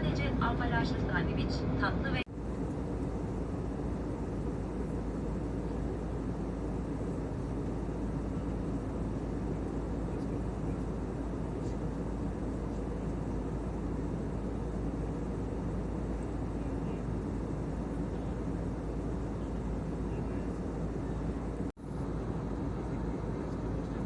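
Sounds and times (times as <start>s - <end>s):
airliner cabin engine rush: 0.0s - 24.0s.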